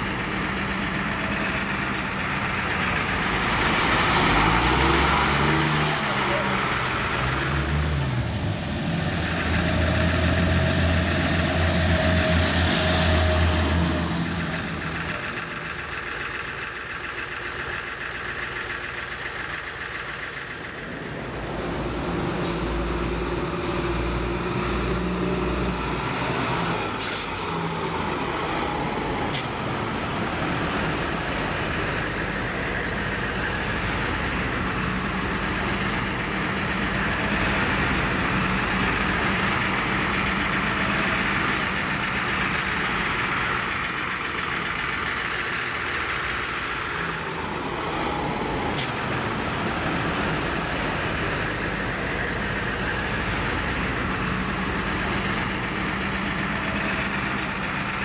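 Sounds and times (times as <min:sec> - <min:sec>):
lorry engine running: 0:00.0 - 0:58.0.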